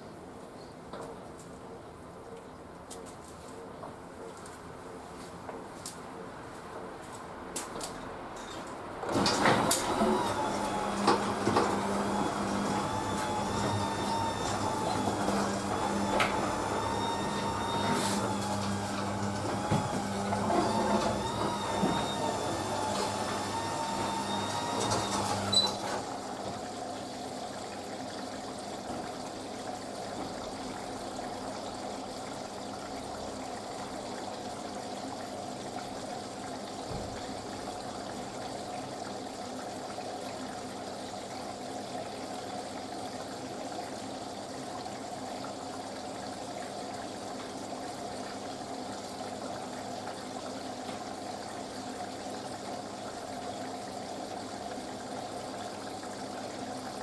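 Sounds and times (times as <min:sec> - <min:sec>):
water rushing in washing machine: 0:07.6 - 0:57.0.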